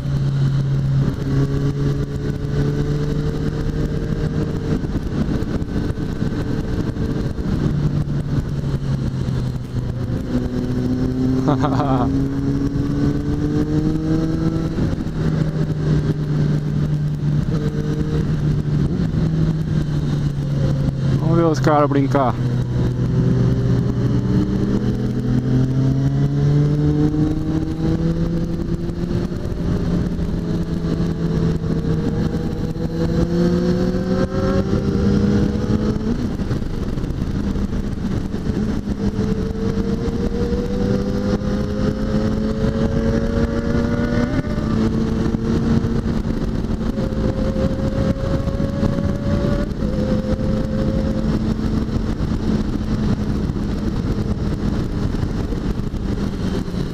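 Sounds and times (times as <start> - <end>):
motorcycle engine revving: 0.0 - 56.9
wind rush: 0.0 - 56.9.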